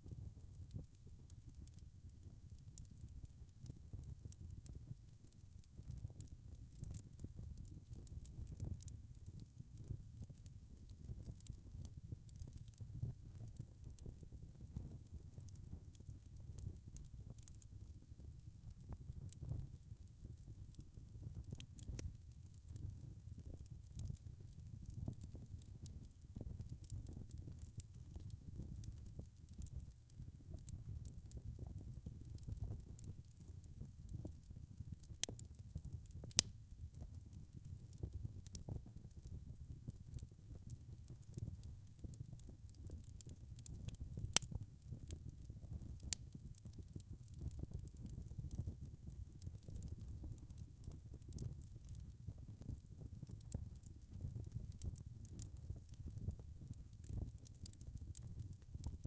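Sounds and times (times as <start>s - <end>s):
wood fire crackling: 0.3s - 59.0s.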